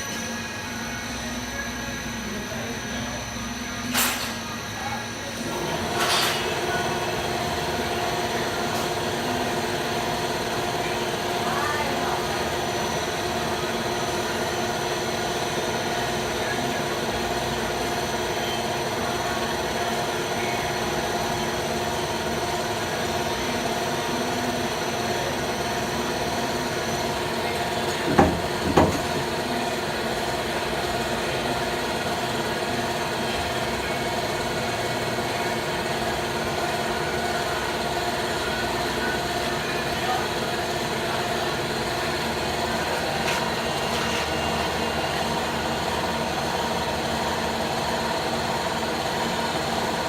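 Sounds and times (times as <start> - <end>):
lathe humming and whining: 0.0 - 50.0.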